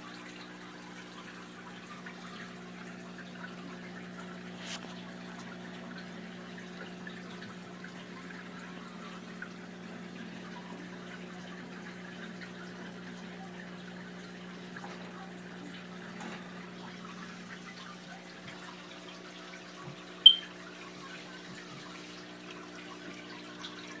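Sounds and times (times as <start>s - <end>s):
aquarium pump hum: 0.0s - 24.0s
water trickling and dripping: 0.0s - 24.0s.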